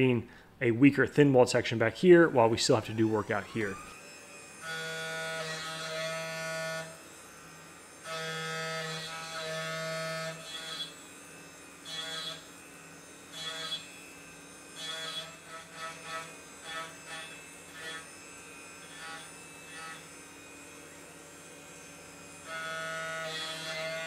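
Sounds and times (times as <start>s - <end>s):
end mill cutting metal: 2.4s - 24.0s.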